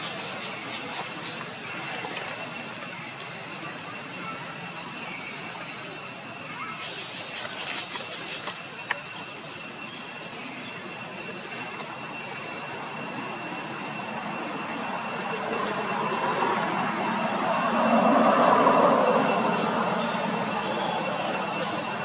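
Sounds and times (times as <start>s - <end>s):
high-pitched whine: 0.0s - 22.0s.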